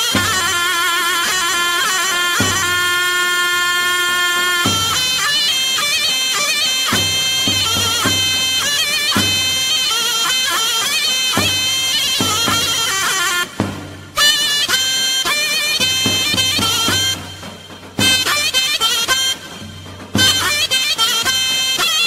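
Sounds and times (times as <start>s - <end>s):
reed wind instrument melody: 0.0s - 22.0s.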